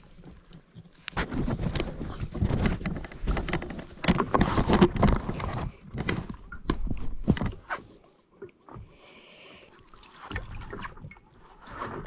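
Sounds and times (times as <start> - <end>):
rustling and sloshing: 0.0 - 9.0, 9.8 - 12.0.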